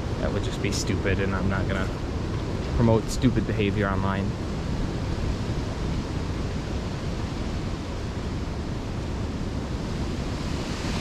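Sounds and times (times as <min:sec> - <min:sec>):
strong gusty wind: 0:00.0 - 0:11.0.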